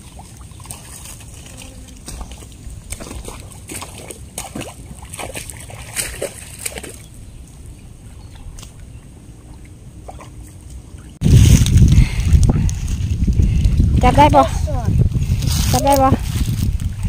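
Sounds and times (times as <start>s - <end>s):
wading in shallow water: 0.0s - 17.0s.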